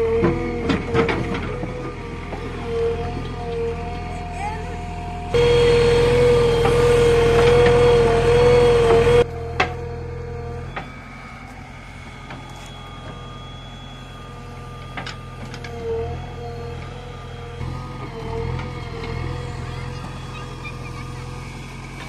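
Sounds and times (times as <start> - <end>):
diesel engine working under load: 0.0 - 22.0.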